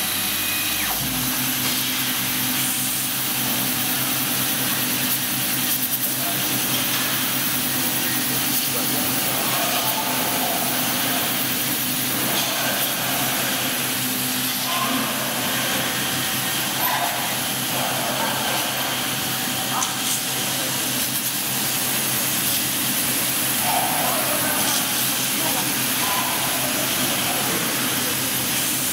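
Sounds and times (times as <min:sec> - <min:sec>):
laser cutter air hiss: 0:00.0 - 0:28.9.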